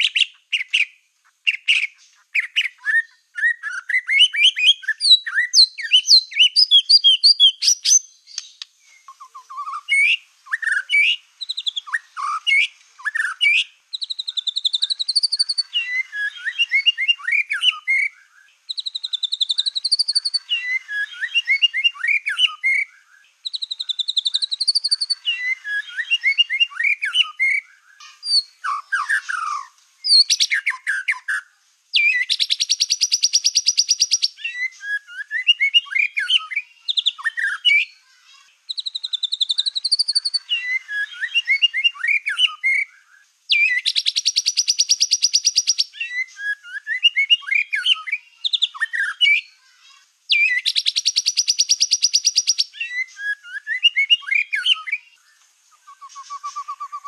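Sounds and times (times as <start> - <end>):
bird song whistles and trills: 0.0 - 57.0.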